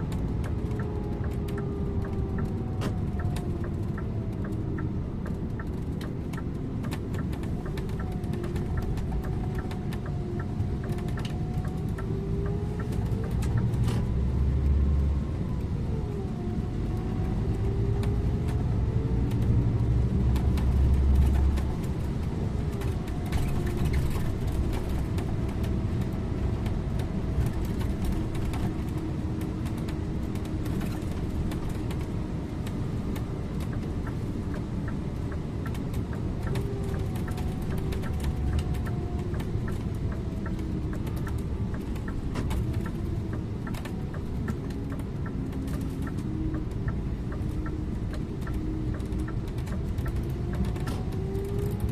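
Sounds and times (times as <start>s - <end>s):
light ticking: 0.0s - 16.2s, 16.8s - 51.9s
bus engine rumbling: 0.0s - 51.9s.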